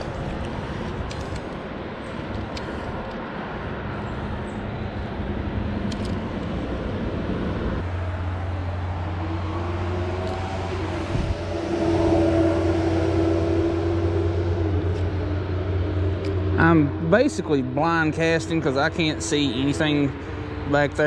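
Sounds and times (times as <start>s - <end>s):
highway traffic rumble: 0.0s - 21.0s
vehicle engine rising in pitch: 3.4s - 21.0s.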